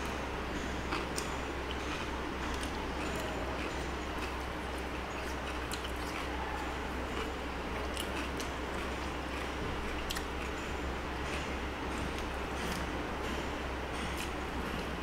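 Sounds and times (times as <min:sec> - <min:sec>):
chewing: 0:00.6 - 0:12.9.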